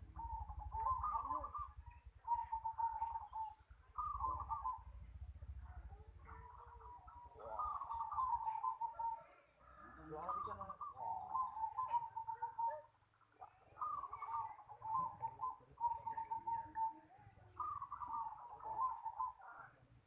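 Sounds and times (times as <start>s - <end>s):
dove cooing: 0.0s - 19.8s.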